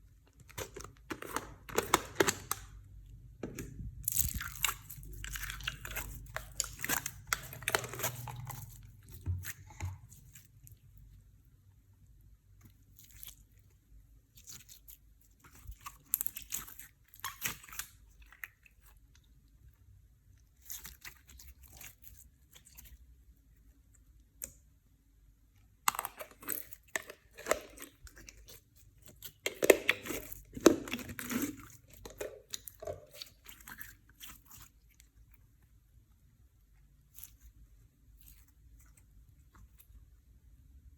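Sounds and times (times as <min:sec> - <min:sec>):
slime crackling and squishing: 0:00.0 - 0:40.8.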